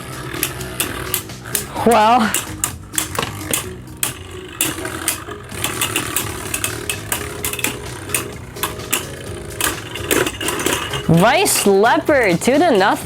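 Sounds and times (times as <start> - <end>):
sharp clicks of tops striking: 0.0 - 13.0
spinning tops whirring: 0.0 - 13.0.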